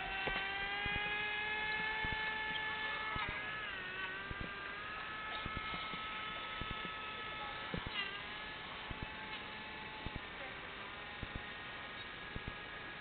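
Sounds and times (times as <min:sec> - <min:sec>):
model boat motor whining: 0:00.0 - 0:13.0.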